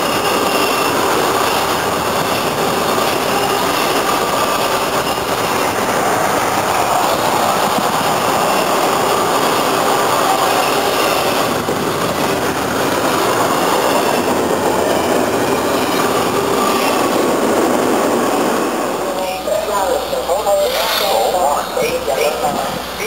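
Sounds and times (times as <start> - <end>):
train wheels rushing on rails: 0.0 - 23.0.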